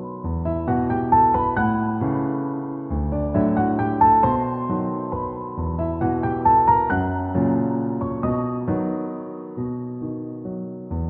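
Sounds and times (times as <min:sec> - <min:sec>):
soft piano piece: 0:00.0 - 0:11.0.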